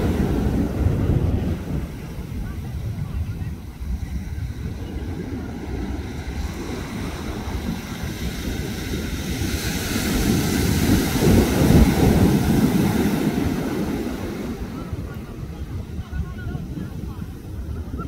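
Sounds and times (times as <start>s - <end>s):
ocean waves washing: 0.0s - 18.0s
wave rushing up sand: 0.0s - 18.0s
wind buffeting microphone: 0.0s - 18.0s.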